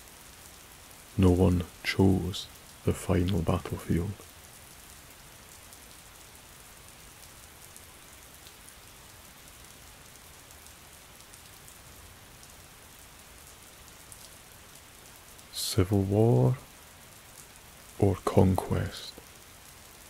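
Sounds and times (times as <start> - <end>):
rain drops ticking: 0.0 - 20.0
soft rain hiss: 0.0 - 20.0.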